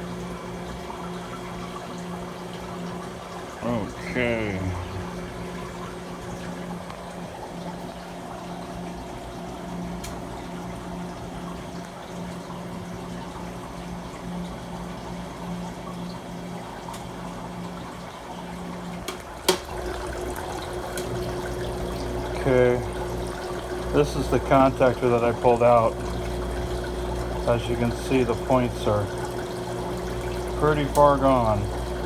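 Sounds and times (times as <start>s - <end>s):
motor hum: 0.0s - 32.0s
water splashing and trickling: 0.1s - 32.0s.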